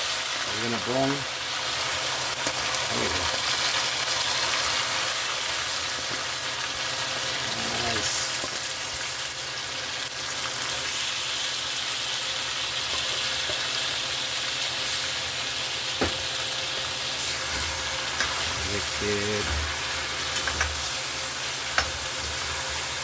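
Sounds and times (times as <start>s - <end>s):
chicken sizzling in a pot: 0.0s - 23.0s.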